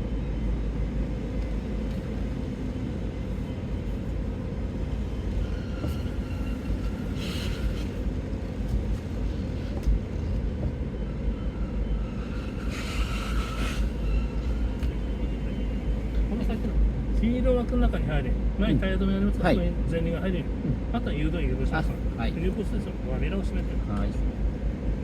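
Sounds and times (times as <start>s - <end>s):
car rumble from inside cabin: 0.0s - 25.0s.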